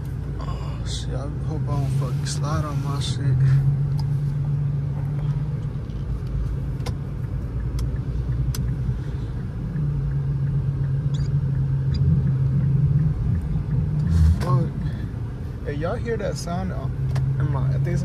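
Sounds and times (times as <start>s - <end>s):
low droning car cabin hum: 0.0s - 18.0s
road rumble: 0.0s - 18.0s.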